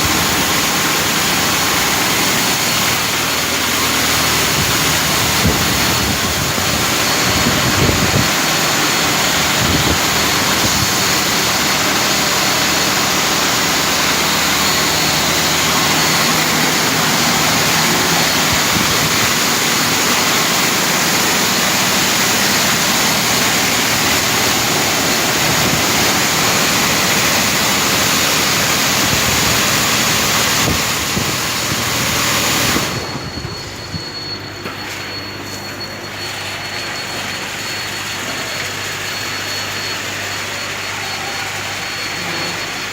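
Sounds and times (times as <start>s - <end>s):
faint high whine: 0.0s - 42.9s
vehicle wash machine rushing: 0.0s - 42.9s.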